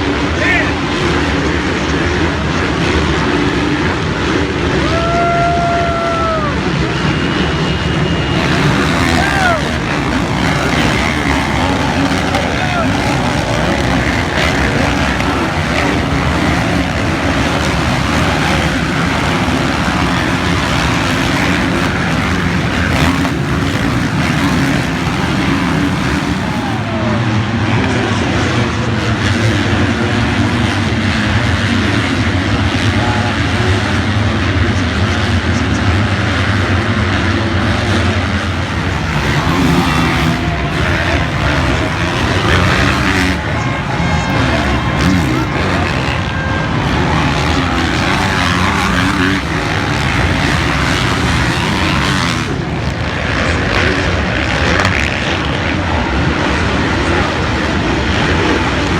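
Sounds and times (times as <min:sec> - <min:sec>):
motocross bike engines racing: 0:00.0 - 0:58.9.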